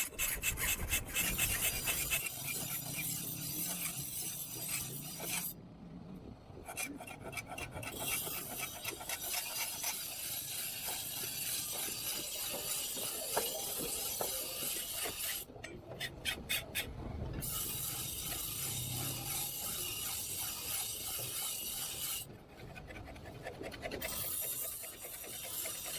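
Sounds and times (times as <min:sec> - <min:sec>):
metal being filed by hand: 0:00.0 - 0:05.6, 0:06.6 - 0:25.9.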